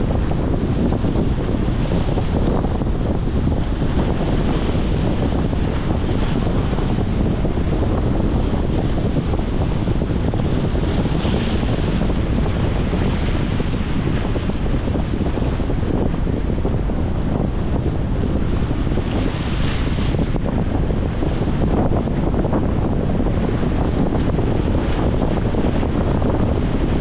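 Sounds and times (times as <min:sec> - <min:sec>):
waves against concrete shore: 0:00.0 - 0:27.0
wind buffeting microphone: 0:00.0 - 0:27.0.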